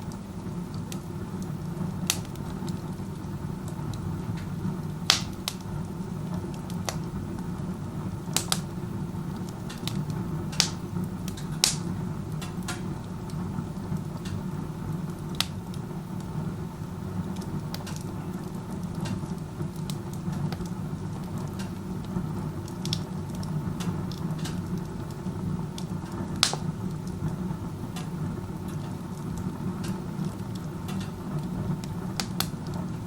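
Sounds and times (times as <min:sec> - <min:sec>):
burning wood crackling: 0:00.0 - 0:33.0
stove draft rumbling: 0:00.0 - 0:33.0.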